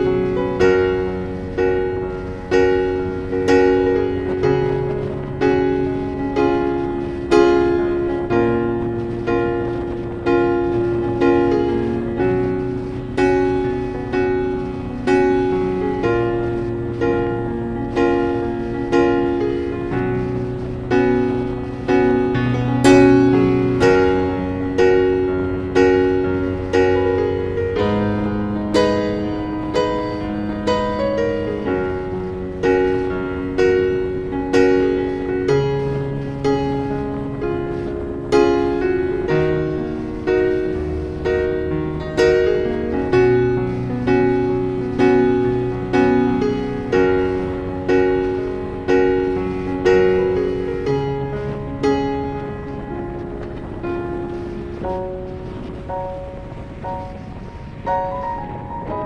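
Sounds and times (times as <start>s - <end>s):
slow piano chords: 0.0s - 59.0s.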